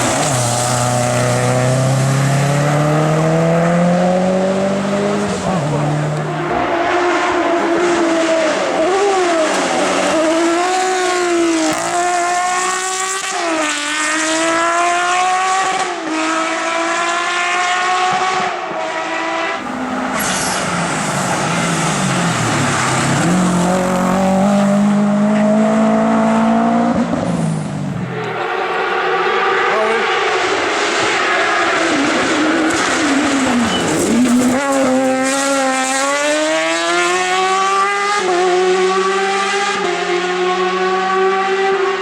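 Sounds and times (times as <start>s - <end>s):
lower engine note rising: 0.0s - 13.1s, 19.6s - 41.8s
car engine accelerating and upshifting: 0.0s - 42.0s.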